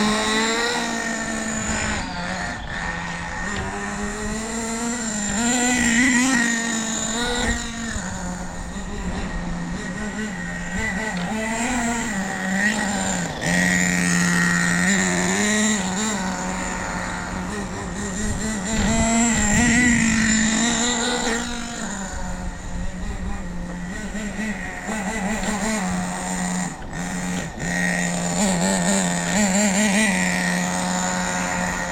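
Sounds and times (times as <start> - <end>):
rc car nitro engine revving: 0.0 - 31.9.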